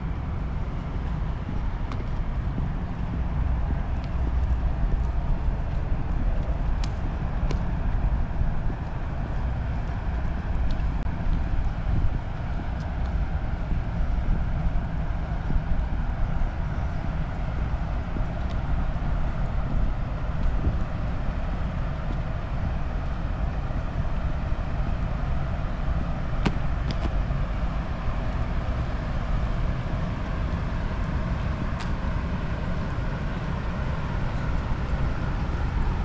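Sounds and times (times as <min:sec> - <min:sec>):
low city rumble: 0:00.0 - 0:36.0.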